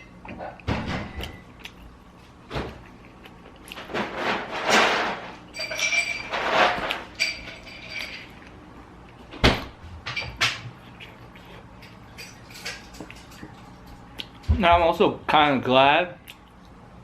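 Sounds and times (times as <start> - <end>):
eating and handling noises: 0.0 - 17.0.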